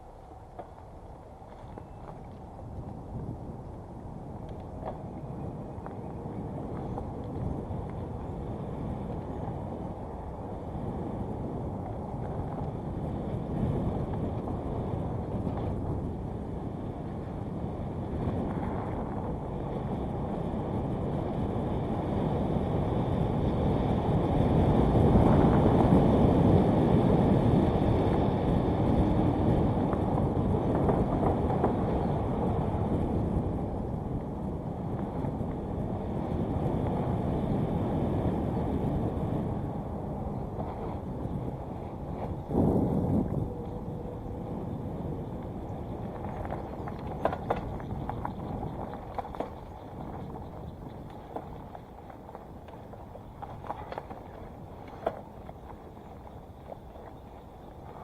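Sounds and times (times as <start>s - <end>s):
bike tyres rolling on dirt: 0.0s - 58.0s
wind on microphone: 0.0s - 58.0s.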